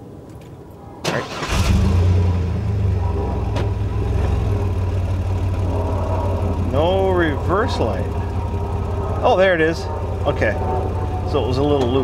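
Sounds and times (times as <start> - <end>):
car engine starting and idling: 1.0 - 12.0.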